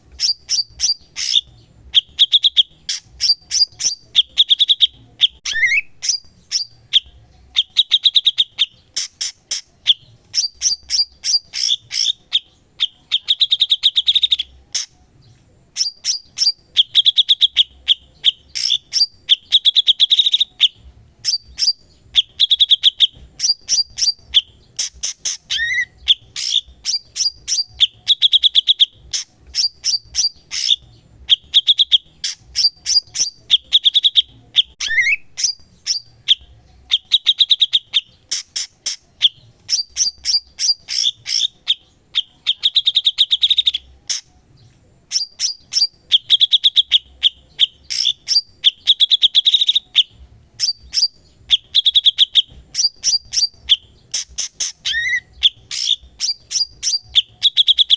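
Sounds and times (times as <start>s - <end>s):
bird chattering trills: 0.0s - 15.0s, 15.7s - 44.3s, 45.0s - 57.9s.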